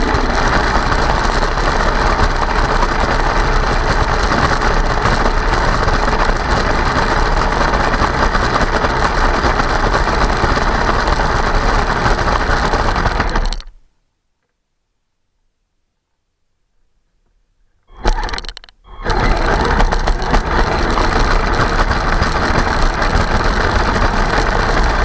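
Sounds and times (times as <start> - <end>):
toy vehicle motor rattling: 0.0 - 13.8, 17.9 - 25.0.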